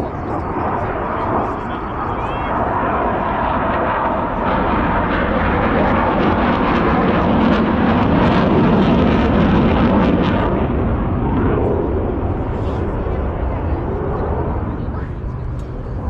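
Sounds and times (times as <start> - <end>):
military jet flying past: 0.0 - 16.0.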